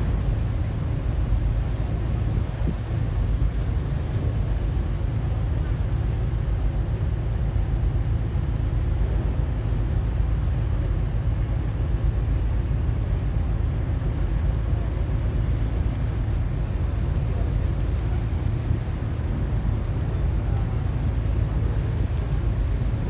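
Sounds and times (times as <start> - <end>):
ship engines rumbling: 0.0 - 23.0.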